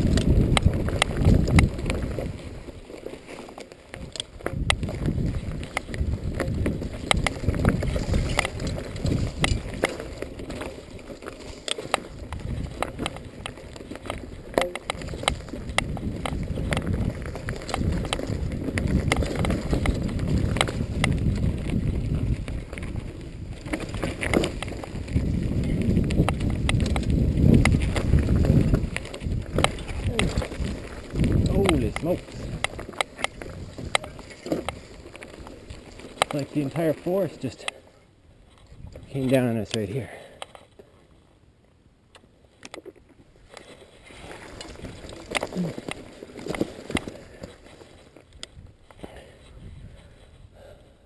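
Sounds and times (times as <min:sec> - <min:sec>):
wind rumbling on microphone: 0:00.0 - 0:03.1, 0:03.9 - 0:39.8, 0:43.2 - 0:51.0
rattling clicks from bike: 0:00.0 - 0:37.9, 0:42.1 - 0:50.2
bike tyres rolling over dirt: 0:00.0 - 0:51.0.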